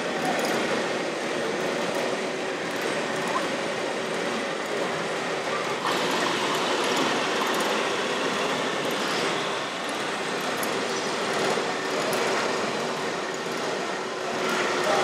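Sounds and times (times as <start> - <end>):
small motors and gearboxes whirring: 0.0 - 15.0.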